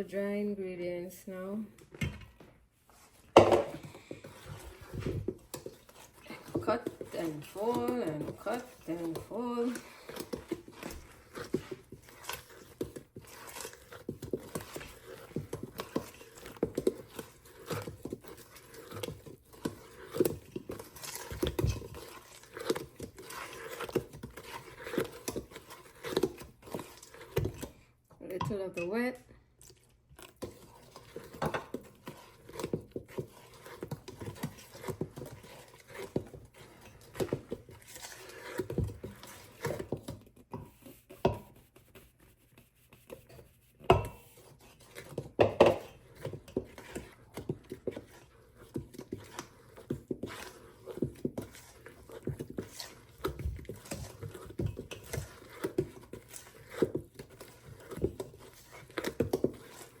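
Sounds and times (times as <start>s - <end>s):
spoon folding batter in bowl: 1.8s - 60.0s.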